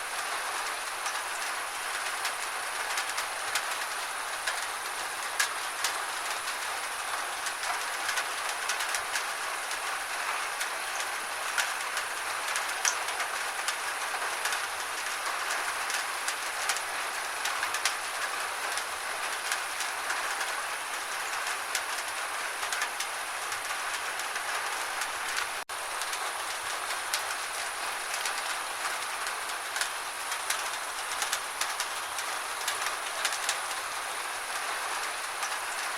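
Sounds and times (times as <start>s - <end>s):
gentle rain falling: 0.0s - 35.9s.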